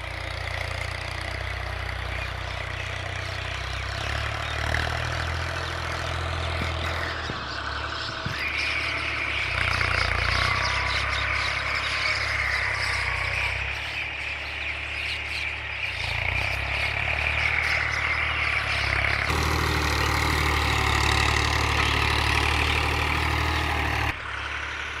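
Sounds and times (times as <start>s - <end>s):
engine running with low hum: 0.0s - 25.0s.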